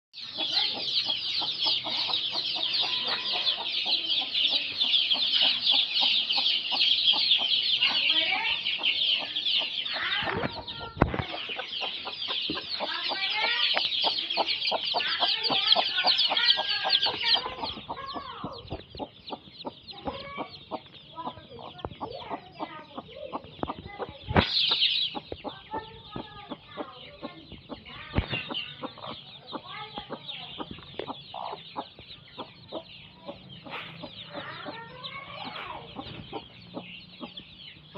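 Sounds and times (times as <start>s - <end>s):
chicks peeping: 0.2s - 37.9s.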